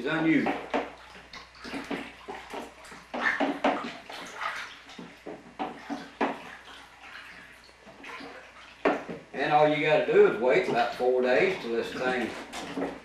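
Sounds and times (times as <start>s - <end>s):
mash sloshing while stirred: 0.1s - 9.4s, 10.5s - 13.0s.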